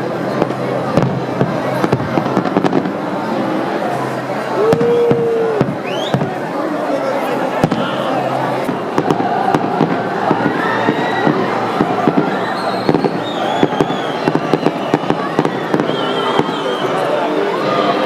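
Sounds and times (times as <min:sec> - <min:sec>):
fireworks crackling and popping: 0:00.0 - 0:03.5, 0:04.6 - 0:06.7, 0:07.4 - 0:17.2
crowd noise: 0:00.0 - 0:18.0.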